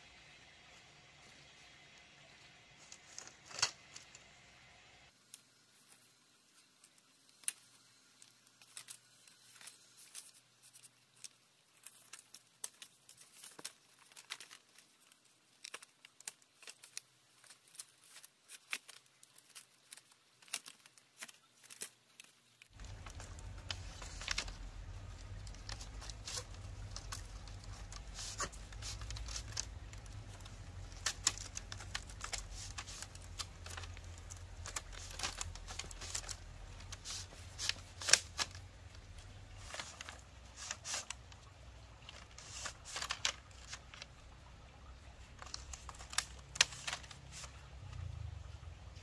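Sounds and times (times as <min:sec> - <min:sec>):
material rustling and snapping: 0:02.7 - 0:04.3, 0:05.2 - 0:48.2.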